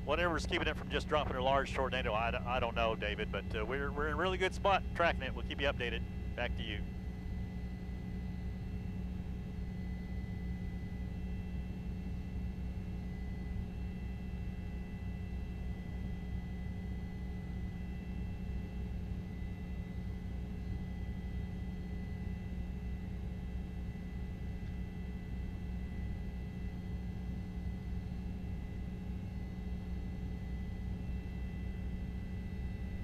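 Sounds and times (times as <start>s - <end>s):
constant hum: 0.0s - 33.0s
faint high whine: 0.0s - 33.0s.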